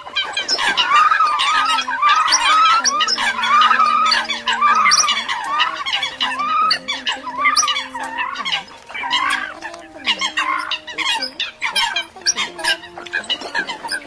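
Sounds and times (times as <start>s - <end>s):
coots squawking: 0.0s - 14.0s.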